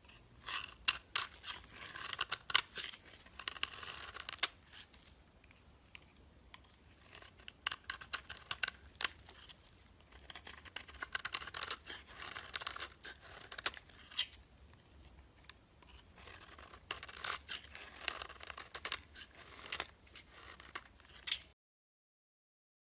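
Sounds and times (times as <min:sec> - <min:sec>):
crunchy soap crackling: 0:00.1 - 0:14.5, 0:15.4 - 0:21.5.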